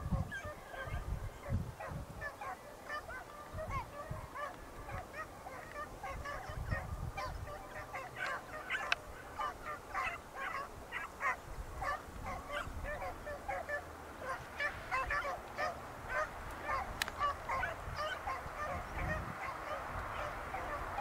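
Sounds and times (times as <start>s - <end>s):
pack of dogs baying: 0.0s - 21.0s.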